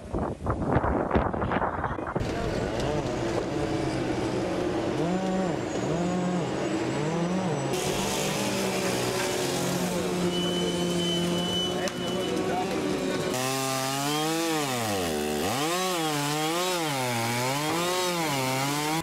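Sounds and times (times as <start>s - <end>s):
diesel engine revving: 2.2s - 19.0s.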